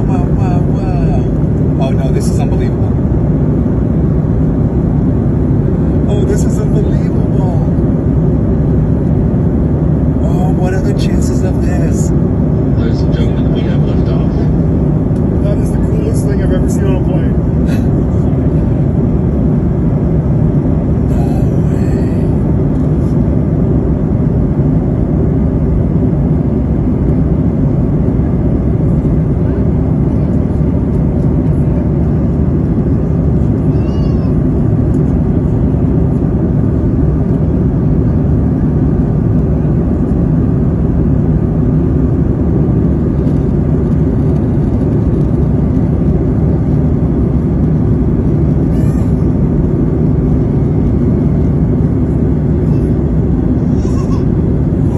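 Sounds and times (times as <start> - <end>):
airliner cabin roar: 0.0 - 54.9.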